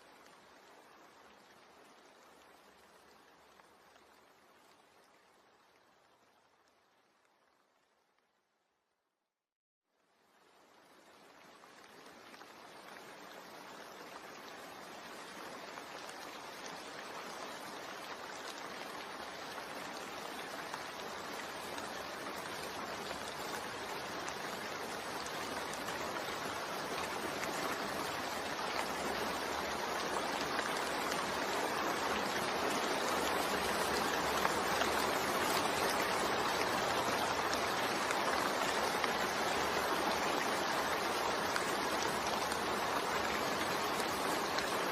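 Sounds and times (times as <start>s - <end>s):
steady rain hiss: 0.0s - 8.6s, 9.9s - 44.9s.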